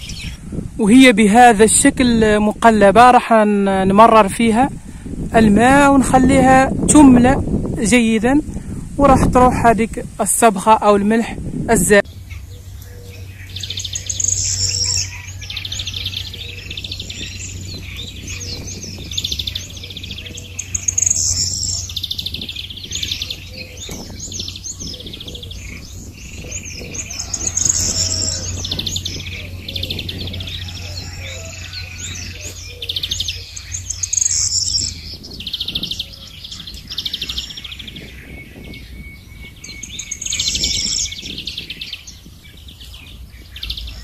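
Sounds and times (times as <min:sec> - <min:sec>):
small birds chirping and twittering: 0:00.0 - 0:44.0.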